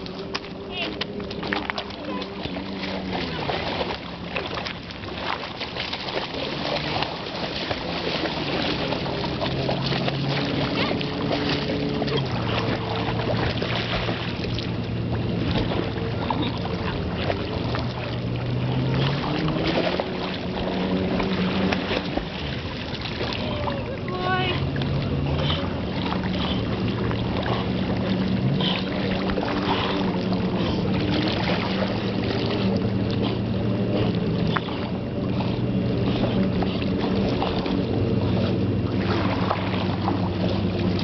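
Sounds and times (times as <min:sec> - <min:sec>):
steady motor drone: 0:00.0 - 0:41.0
water splashing and sloshing: 0:00.0 - 0:41.0.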